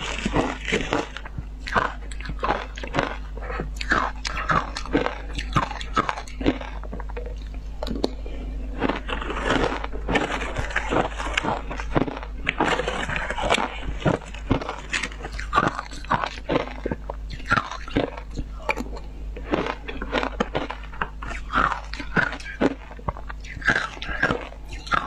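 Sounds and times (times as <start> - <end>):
ice being chewed: 0.0 - 25.0
steady low hum: 0.0 - 25.0.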